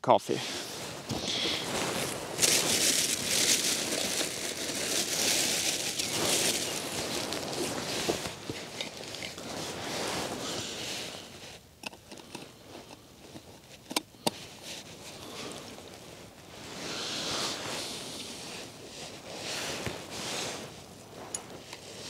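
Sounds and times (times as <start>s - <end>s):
clothing and gear rustling: 0.4s - 11.7s, 12.3s - 22.0s.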